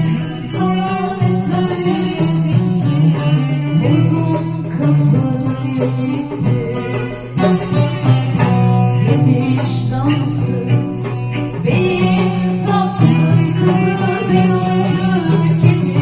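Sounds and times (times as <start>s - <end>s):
song with plucked strings: 0.0s - 16.0s.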